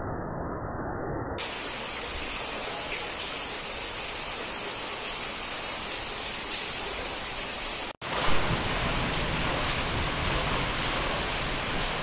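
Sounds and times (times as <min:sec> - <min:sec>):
heavy rain pouring: 0:01.4 - 0:12.0.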